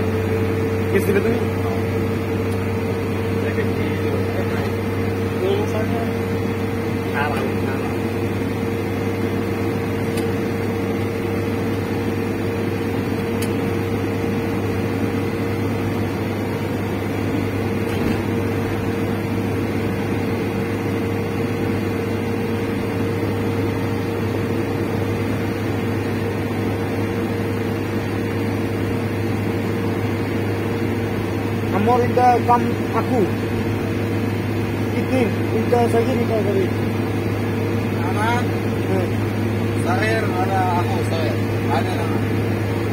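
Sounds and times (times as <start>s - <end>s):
car interior road and engine noise: 0.0s - 42.9s.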